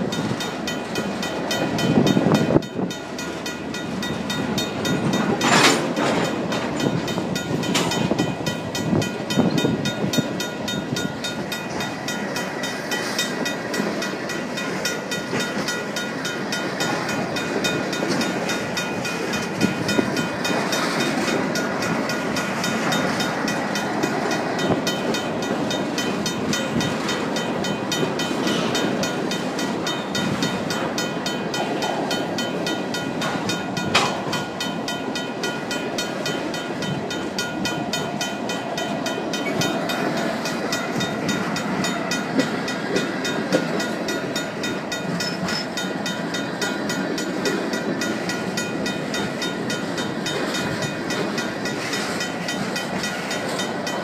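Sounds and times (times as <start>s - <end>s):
crossing bell ringing: 0.0s - 54.0s
train cars clanking: 0.0s - 54.0s
train wheels rumbling on rails: 0.0s - 54.0s.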